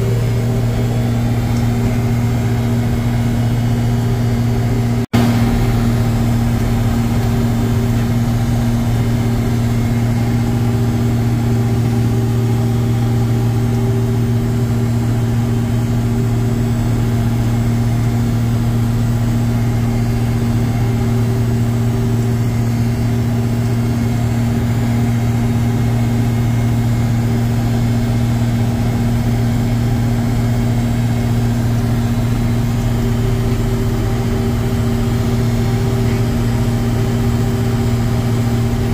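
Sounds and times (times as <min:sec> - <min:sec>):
combine harvester diesel engine running: 0:00.0 - 0:38.9.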